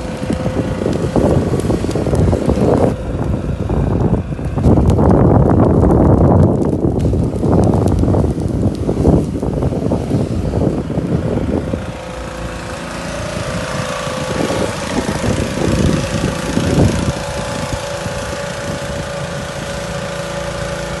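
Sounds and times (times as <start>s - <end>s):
engine running steadily: 0.0s - 21.0s
wind gusts on microphone: 0.0s - 21.0s.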